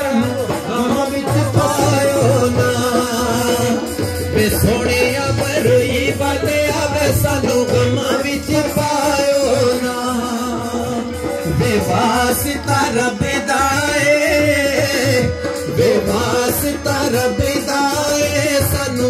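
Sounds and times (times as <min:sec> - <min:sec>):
hand drums beating: 0:00.0 - 0:19.0
harmonium drone: 0:00.0 - 0:19.0
man singing: 0:00.0 - 0:19.0.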